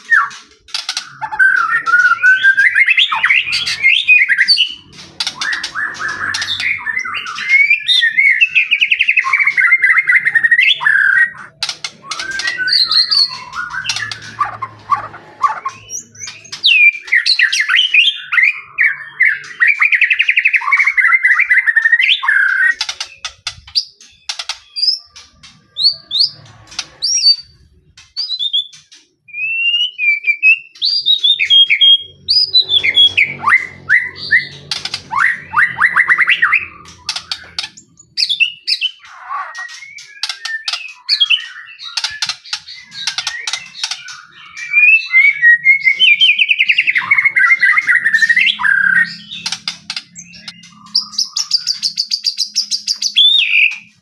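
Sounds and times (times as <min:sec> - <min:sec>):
bird singing whistled phrases: 0:01.0 - 0:04.8, 0:05.4 - 0:23.1, 0:28.2 - 0:49.5, 0:50.1 - 0:53.9.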